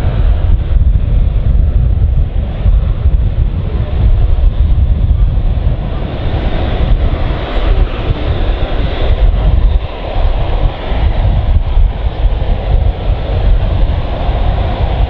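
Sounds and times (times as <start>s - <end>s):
deep fluttering rotor thrum: 0.0s - 15.0s.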